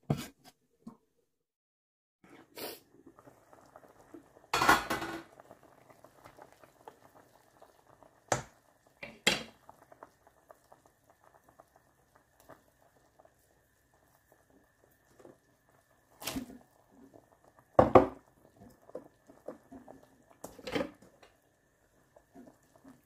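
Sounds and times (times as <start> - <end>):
pot of food bubbling: 2.2 - 23.0.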